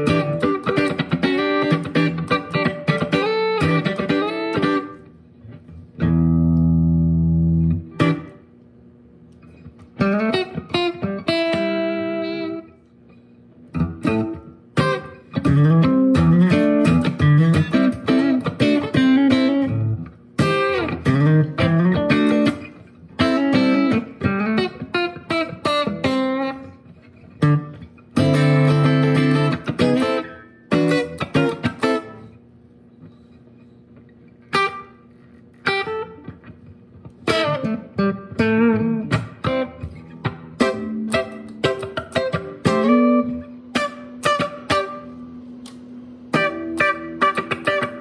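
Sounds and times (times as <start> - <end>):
electric guitar chords and notes: 0.0 - 48.0.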